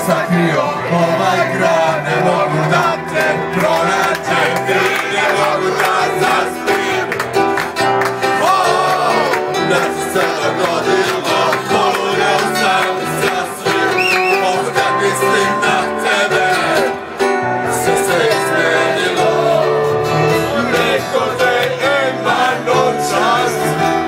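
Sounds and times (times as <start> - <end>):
man singing into microphone: 0.0 - 6.8, 8.4 - 24.0
amplified instrumental backing: 0.0 - 24.0.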